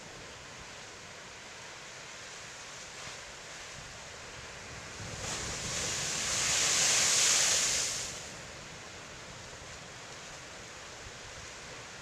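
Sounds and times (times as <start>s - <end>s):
surf washing: 0.0s - 12.0s
wind: 0.0s - 12.0s.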